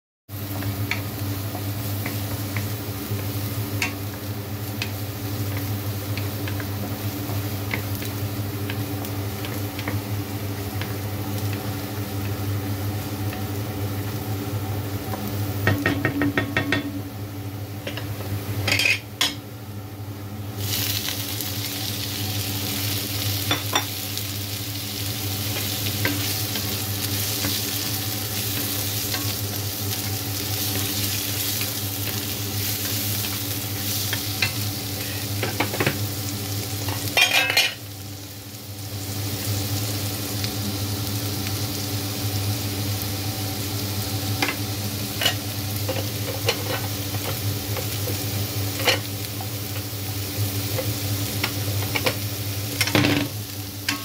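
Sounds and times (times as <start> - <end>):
garlic sizzling in oil: 0.3 - 19.3, 20.4 - 54.0.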